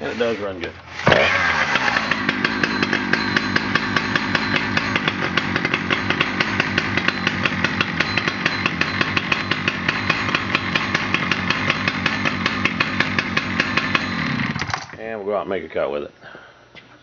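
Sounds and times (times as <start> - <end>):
chainsaw engine idling: 0.9 - 15.0.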